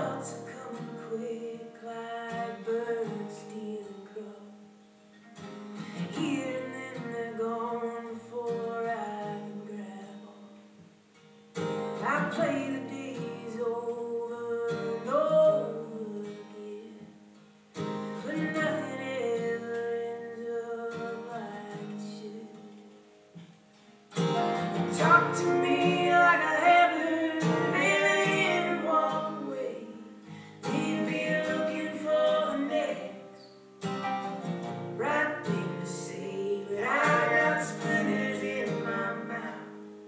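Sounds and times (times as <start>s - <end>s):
person singing: 0.0s - 4.6s, 6.2s - 10.6s, 12.0s - 17.1s, 18.2s - 22.8s, 24.8s - 33.4s, 35.0s - 40.0s
two voices singing in harmony: 0.0s - 4.6s, 6.1s - 10.5s, 12.0s - 17.1s, 18.2s - 22.8s, 24.8s - 33.5s, 34.8s - 40.0s
acoustic guitar strummed and plucked: 0.0s - 40.0s.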